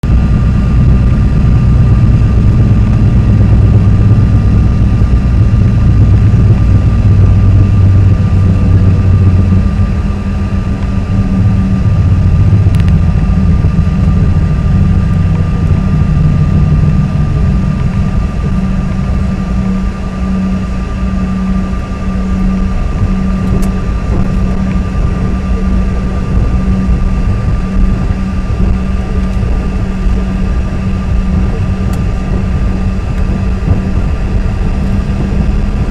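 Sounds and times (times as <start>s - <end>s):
jet engine whine: 0.0s - 35.9s
low cabin rumble: 0.0s - 35.9s.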